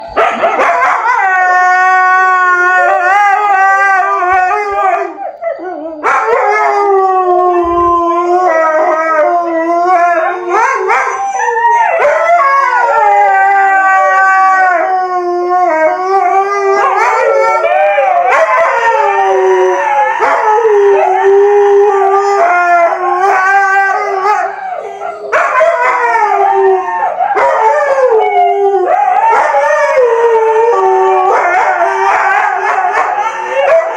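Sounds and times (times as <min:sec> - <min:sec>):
husky howling: 0:00.0 - 0:33.9.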